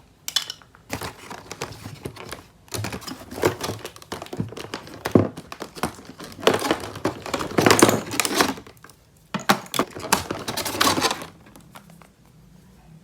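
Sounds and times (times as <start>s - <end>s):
plastic toy pieces clattering: 0.3s - 12.0s
packaging crinkling: 0.9s - 12.2s.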